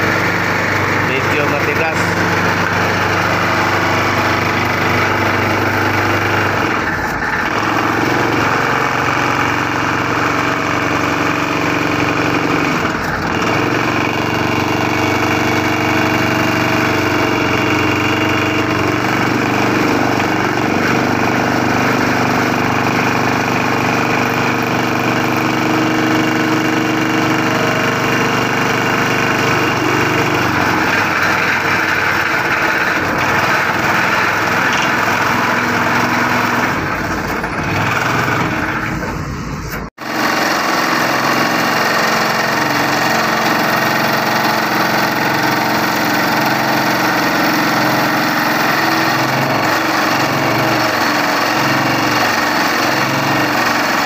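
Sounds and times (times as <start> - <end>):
excavator engine under load: 0.0 - 54.0
hydraulic vibro hammer droning: 0.0 - 54.0.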